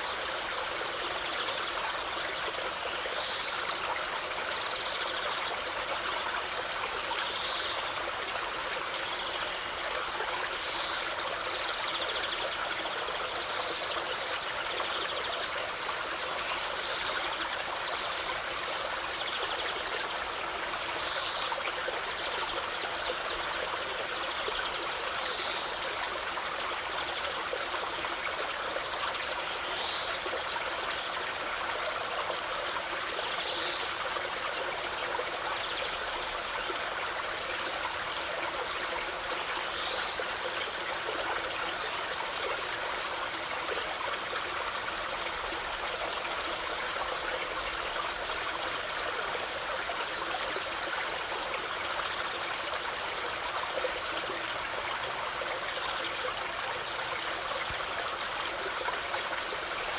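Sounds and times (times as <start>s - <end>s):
river water flowing over stones: 0.0s - 59.9s.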